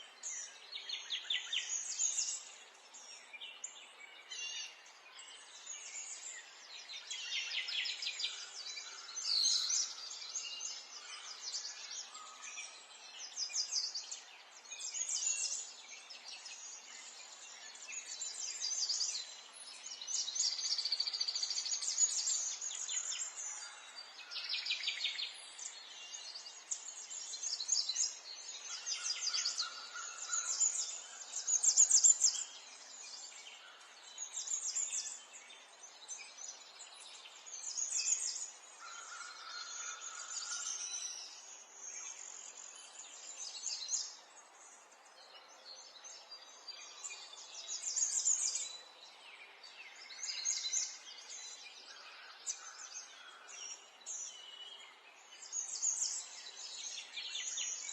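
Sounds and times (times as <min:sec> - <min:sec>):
faint background hiss: 0:00.0 - 0:57.9
songbirds chirping and trilling: 0:00.0 - 0:57.9.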